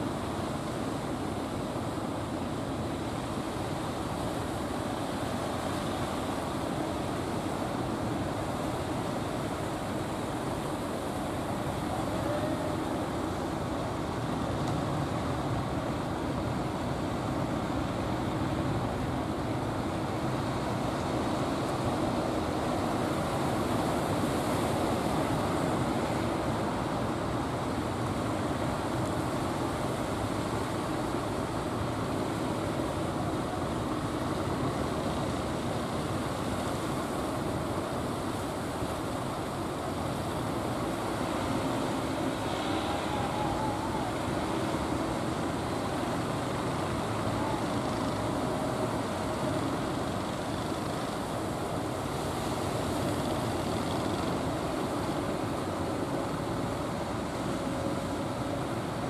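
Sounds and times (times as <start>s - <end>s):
choppy water washing: 0.0s - 59.0s.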